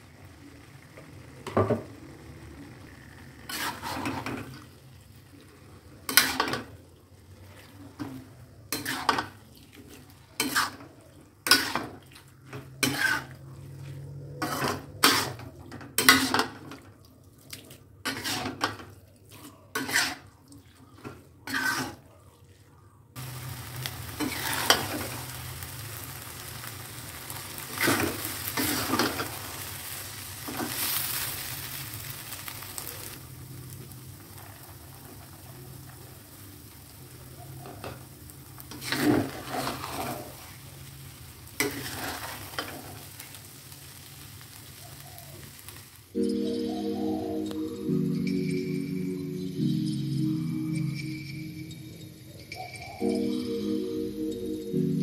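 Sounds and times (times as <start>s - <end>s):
food sizzling: 0.0s - 16.8s, 18.0s - 18.9s, 23.2s - 55.0s.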